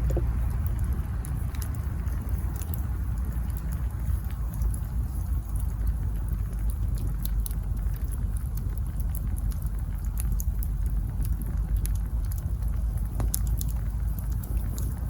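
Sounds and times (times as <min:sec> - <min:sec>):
burning logs crackling and popping: 0:00.0 - 0:15.0
fire low rumble: 0:00.0 - 0:15.0.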